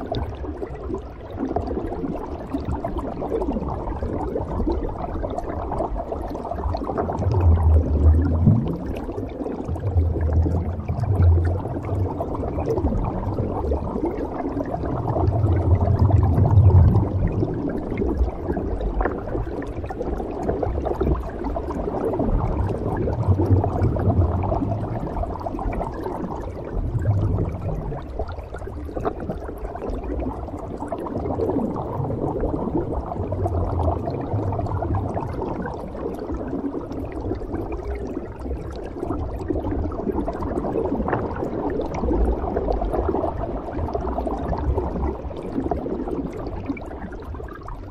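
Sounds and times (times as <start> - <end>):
exhaled bubbles rumbling: 0.0 - 47.9.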